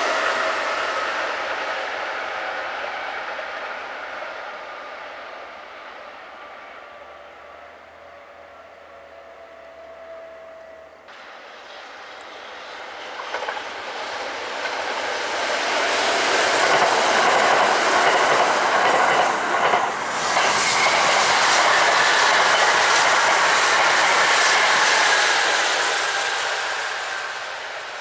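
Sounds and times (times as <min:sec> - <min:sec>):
electric train passing: 0:00.0 - 0:28.0.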